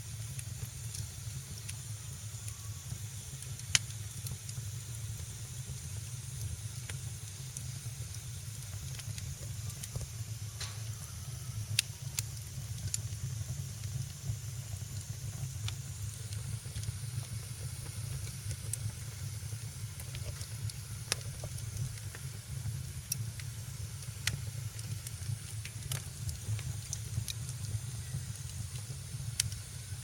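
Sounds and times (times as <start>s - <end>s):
sharp pops and snaps from fire: 0.0s - 30.0s
wood fire crackling: 0.0s - 30.0s.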